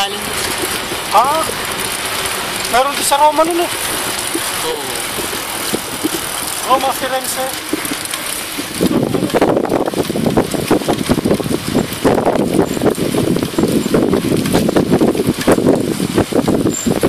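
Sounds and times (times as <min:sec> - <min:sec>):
bicycle rumble and rattle: 0:00.0 - 0:17.0
wind buffeting microphone: 0:00.0 - 0:17.0.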